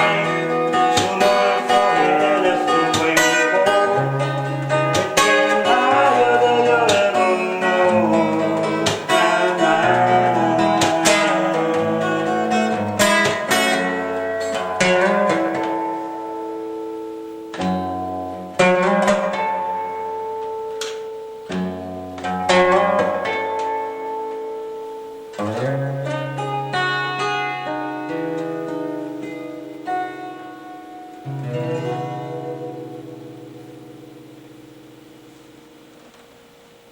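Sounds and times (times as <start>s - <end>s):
guitar playing chords: 0.0s - 36.9s.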